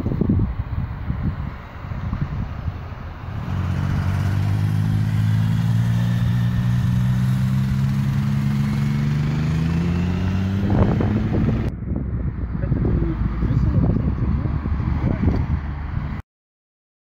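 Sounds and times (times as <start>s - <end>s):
vehicle engine speeding up: 1.5s - 16.2s.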